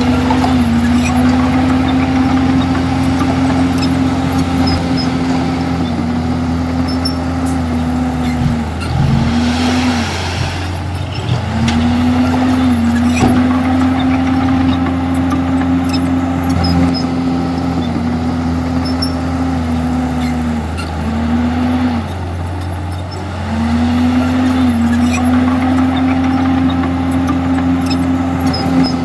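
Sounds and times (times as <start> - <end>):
bulldozer diesel engine under load: 0.0 - 29.0.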